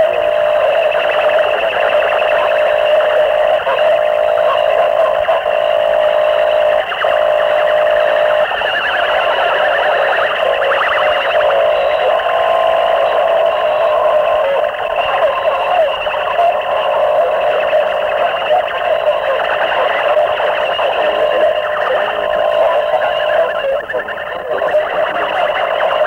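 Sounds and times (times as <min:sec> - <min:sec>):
distorted electronic noise music: 0:00.0 - 0:26.0.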